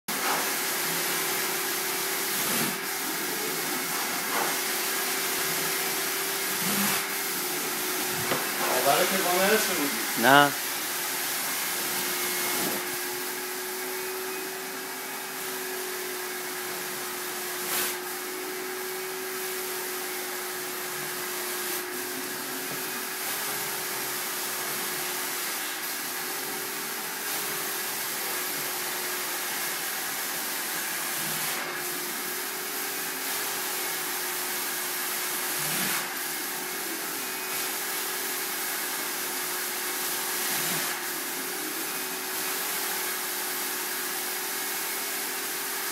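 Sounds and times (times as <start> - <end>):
carpet extractor vacuum hissing: 0.1 - 45.9.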